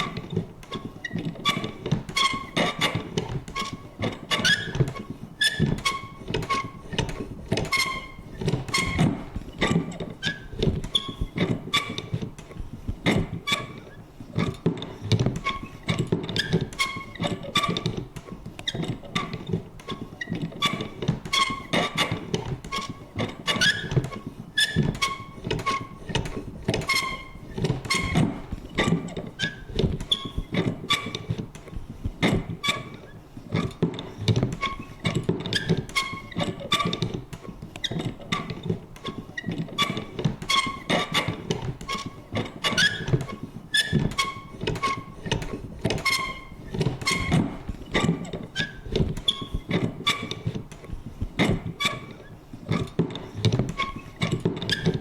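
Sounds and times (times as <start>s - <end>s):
creaking squeaks: 0.0s - 55.0s.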